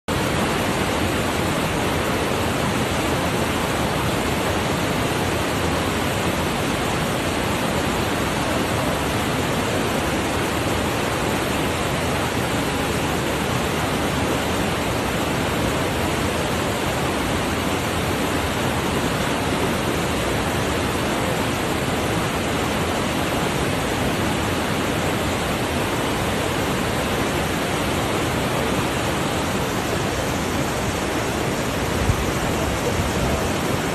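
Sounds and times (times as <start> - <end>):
water rushing over rocks: 0.1 - 33.9.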